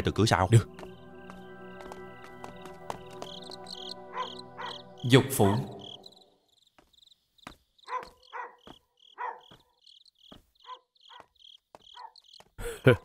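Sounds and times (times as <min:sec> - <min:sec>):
crickets chirping: 0:00.1 - 0:12.6.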